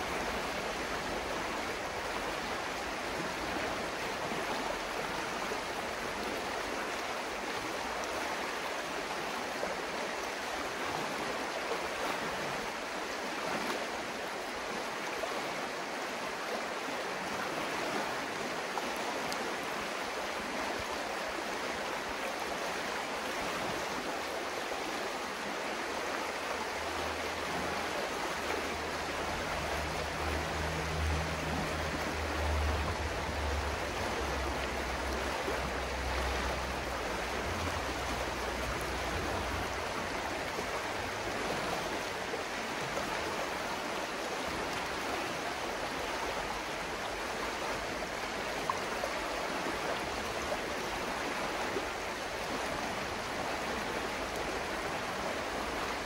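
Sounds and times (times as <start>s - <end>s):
river babbling: 0.0s - 56.0s.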